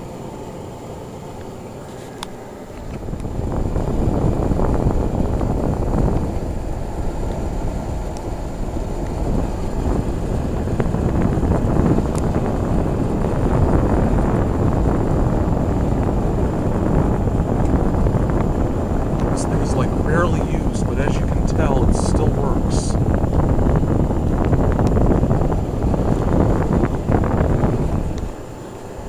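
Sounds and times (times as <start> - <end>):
heater fan blowing air: 0.0 - 29.0.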